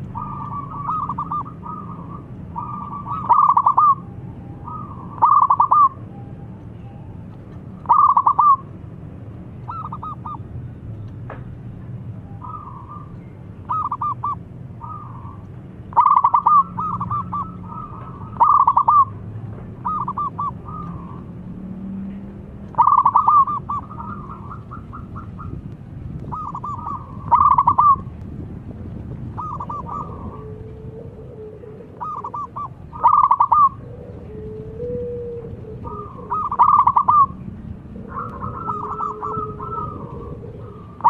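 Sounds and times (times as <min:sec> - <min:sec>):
dove cooing: 0:00.0 - 0:06.0, 0:07.8 - 0:08.7, 0:09.7 - 0:10.4, 0:12.4 - 0:21.4, 0:22.7 - 0:25.6, 0:26.2 - 0:28.1, 0:29.3 - 0:41.0.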